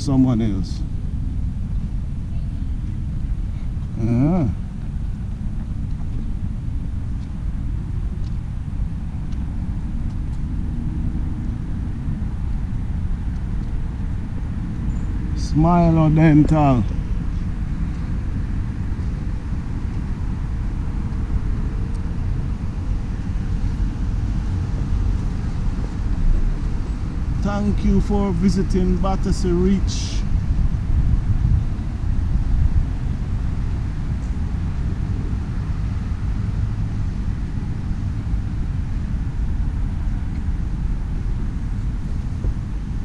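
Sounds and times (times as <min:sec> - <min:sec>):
faint steady hum: 0:00.0 - 0:43.0
low outdoor rumble: 0:00.0 - 0:43.0
wind buffeting microphone: 0:00.0 - 0:43.0.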